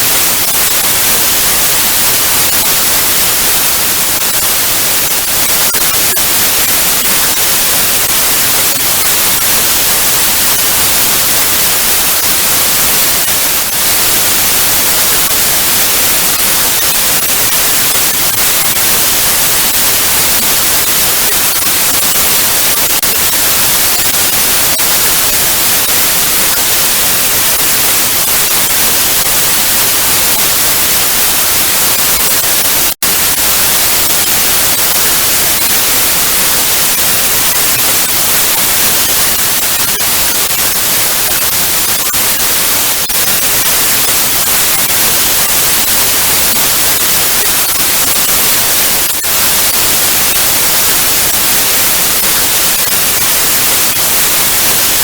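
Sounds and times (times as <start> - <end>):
tv static hiss: 0.0 - 55.0.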